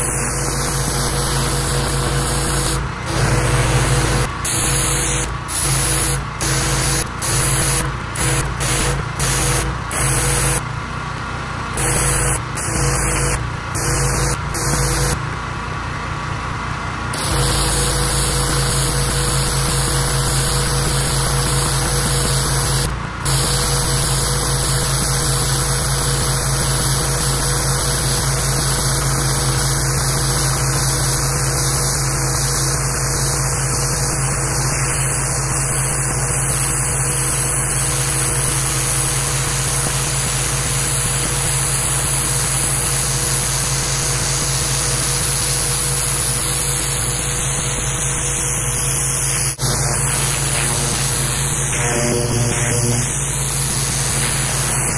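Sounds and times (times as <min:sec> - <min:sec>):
pressure washer engine hum: 0:00.0 - 0:10.5, 0:17.1 - 0:41.0, 0:44.6 - 0:54.9
high-pressure water jet hissing: 0:00.0 - 0:10.6, 0:11.8 - 0:15.2, 0:17.2 - 0:54.9.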